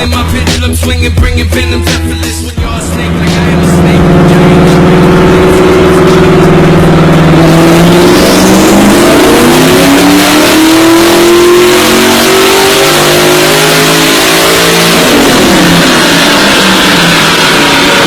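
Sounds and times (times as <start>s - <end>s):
car engine accelerating: 2.6s - 18.0s.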